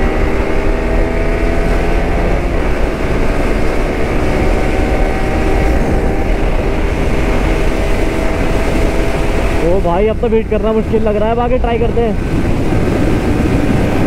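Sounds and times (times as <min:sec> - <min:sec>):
heavy wind noise: 0:00.0 - 0:14.0
motorcycle engine accelerating hard: 0:00.0 - 0:14.0.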